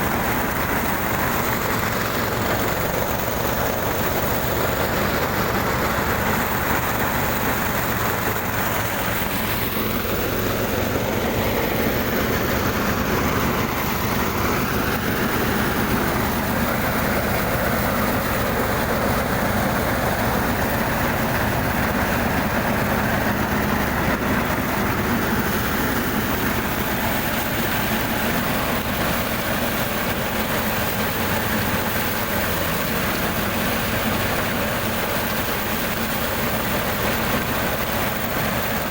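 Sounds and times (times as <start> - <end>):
small engine machine running: 0.0 - 38.9.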